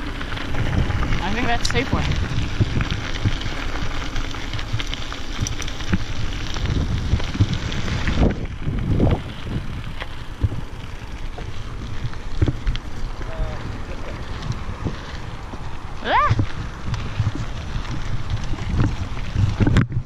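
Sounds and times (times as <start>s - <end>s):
bike tyres crunching on gravel: 0.0s - 20.0s
wind on microphone: 0.0s - 20.0s.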